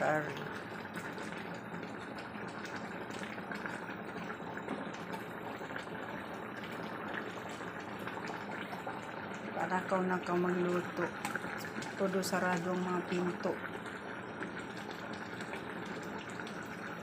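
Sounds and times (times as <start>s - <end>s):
curry bubbling in a pot: 0.0s - 17.0s.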